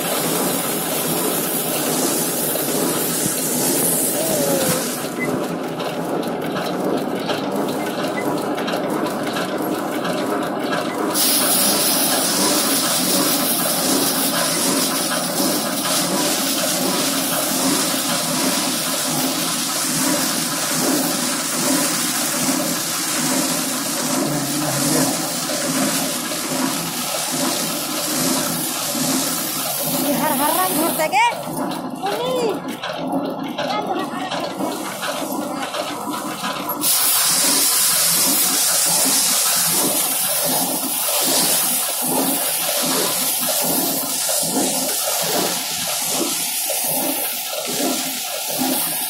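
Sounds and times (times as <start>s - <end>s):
thresher machine running: 0.0s - 49.0s.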